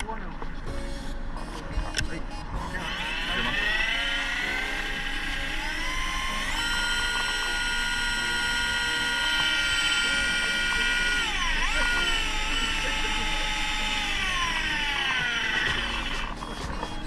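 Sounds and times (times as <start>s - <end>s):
small electric motor whining: 1.9s - 17.0s.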